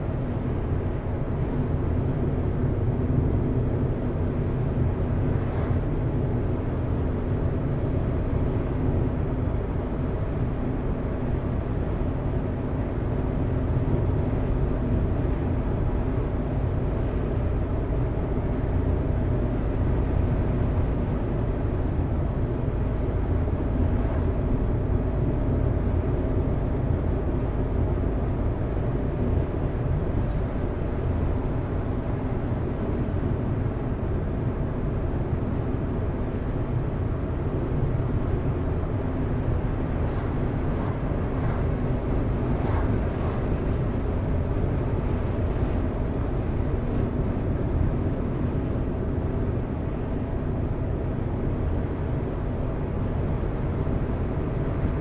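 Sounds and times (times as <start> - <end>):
car engine and tyres rumbling: 0.0 - 55.0
faint steady hum: 0.0 - 55.0.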